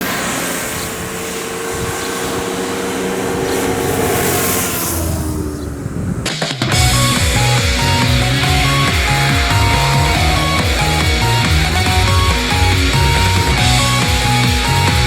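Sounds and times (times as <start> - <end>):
motorcycle engine running: 0.0 - 15.0
wind noise on microphone: 0.7 - 14.0.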